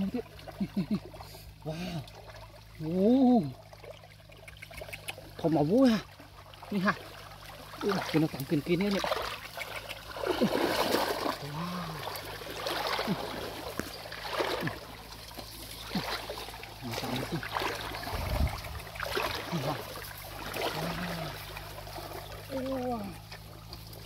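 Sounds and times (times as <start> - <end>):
stream water splashing: 0.0 - 24.0.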